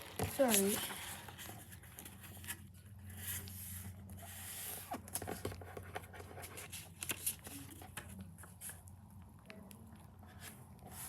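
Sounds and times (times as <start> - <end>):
paper rustling and crackling: 0.0 - 8.9.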